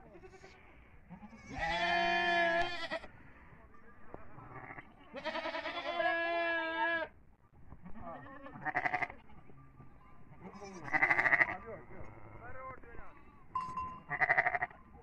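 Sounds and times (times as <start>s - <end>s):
goat kids bleating: 0.0s - 3.2s, 4.4s - 7.2s, 7.8s - 9.4s, 10.2s - 14.8s.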